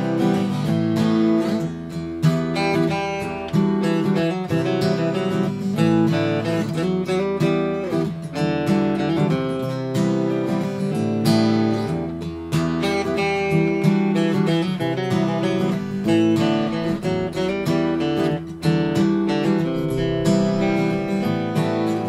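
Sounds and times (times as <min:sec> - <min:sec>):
acoustic guitars strummed: 0:00.0 - 0:22.0.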